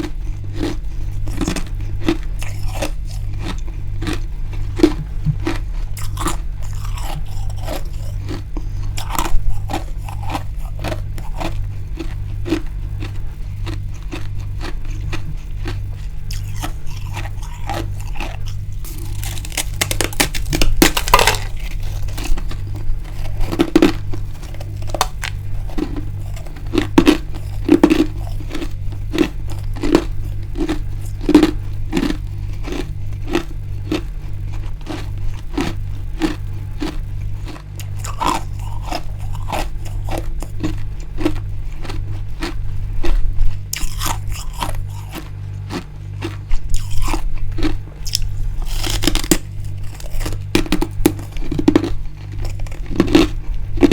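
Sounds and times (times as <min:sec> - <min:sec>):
chewing crunchy frost: 0:00.0 - 0:53.9
low hum: 0:00.0 - 0:53.9.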